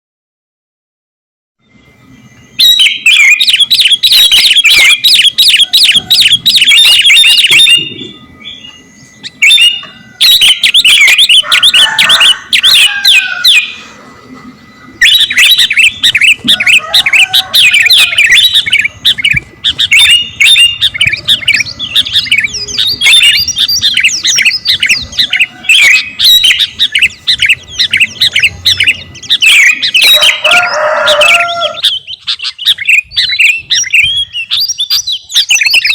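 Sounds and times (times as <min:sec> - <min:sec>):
bird chirping song: 0:01.6 - 0:35.9.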